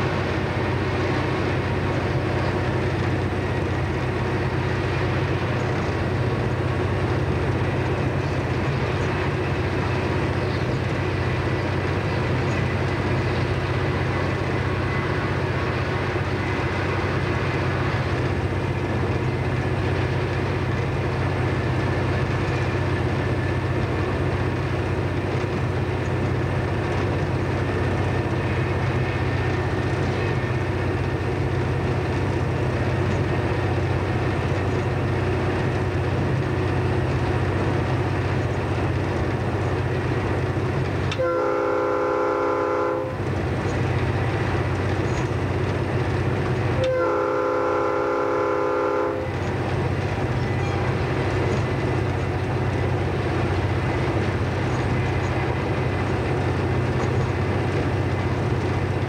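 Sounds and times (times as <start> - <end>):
low engine drone: 0.0 - 59.0
wheel-on-rail noise: 0.0 - 59.0.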